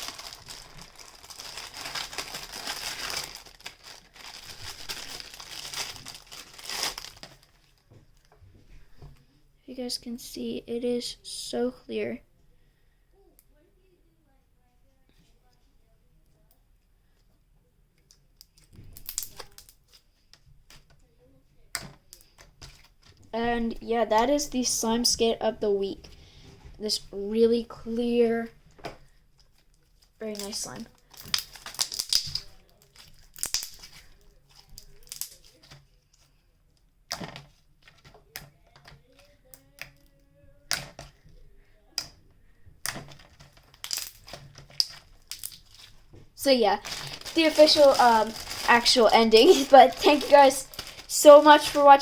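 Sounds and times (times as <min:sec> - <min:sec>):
crackly slime squelches: 0:00.0 - 0:08.3, 0:17.9 - 0:52.0.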